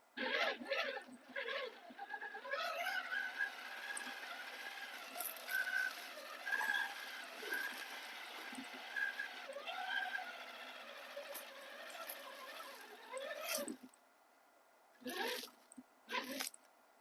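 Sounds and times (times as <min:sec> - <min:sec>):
electric motor and gears whining: 0:00.2 - 0:13.9, 0:15.0 - 0:16.5.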